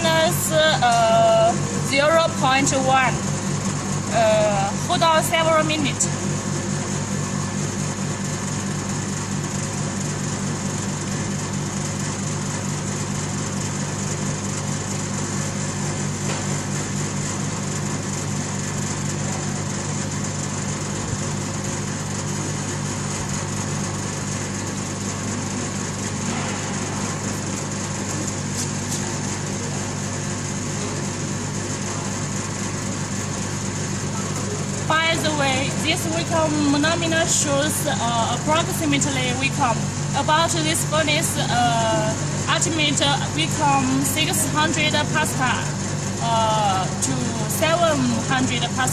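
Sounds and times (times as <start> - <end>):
vacuum pump running: 0.0 - 48.9.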